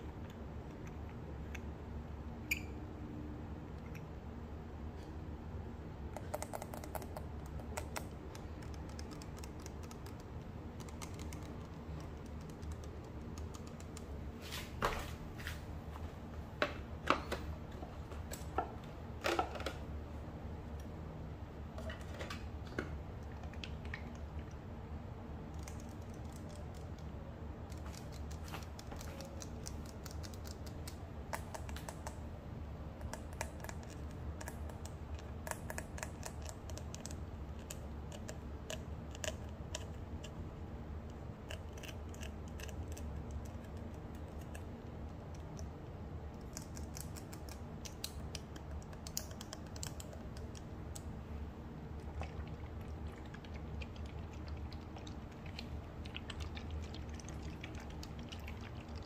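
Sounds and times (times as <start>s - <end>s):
low even hum: 0.0s - 59.0s.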